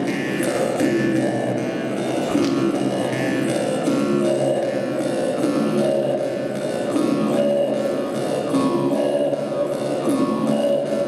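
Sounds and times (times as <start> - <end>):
music with held shifting notes: 0.0 - 11.0.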